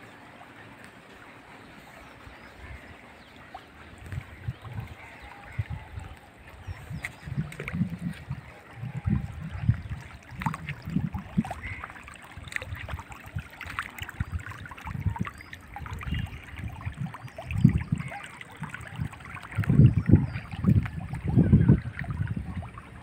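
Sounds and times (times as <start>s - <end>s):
water trickling from hose: 0.0s - 23.0s
wind buffeting microphone: 2.0s - 23.0s.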